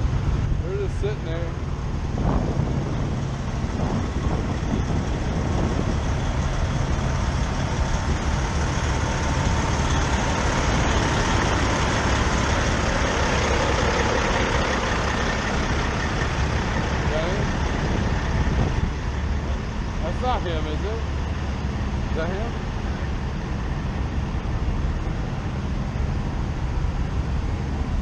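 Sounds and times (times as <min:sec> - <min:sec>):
diesel truck engines idling: 0:00.0 - 0:28.0.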